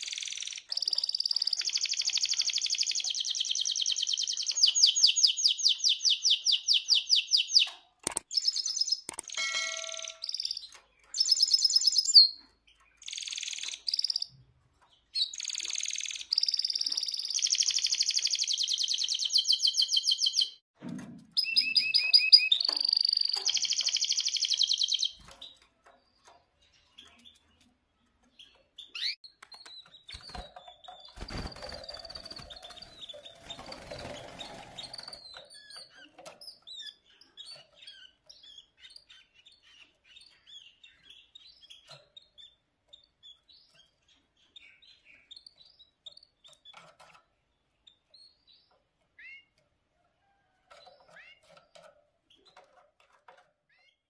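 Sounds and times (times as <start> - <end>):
canary singing: 0.0 - 20.6, 21.4 - 47.2, 47.8 - 49.6.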